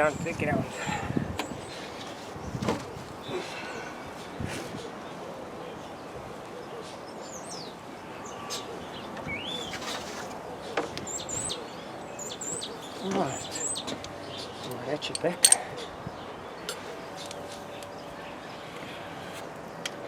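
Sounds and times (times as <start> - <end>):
birds chirping: 0.0 - 20.0
steady background noise: 0.0 - 20.0.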